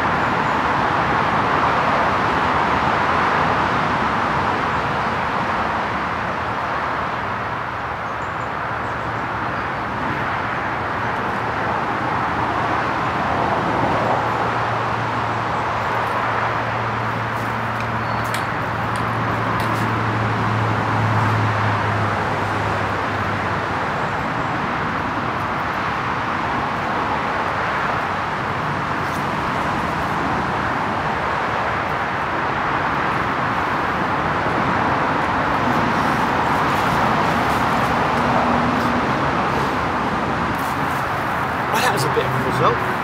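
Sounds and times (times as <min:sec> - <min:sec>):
road traffic noise: 0:00.0 - 0:43.0.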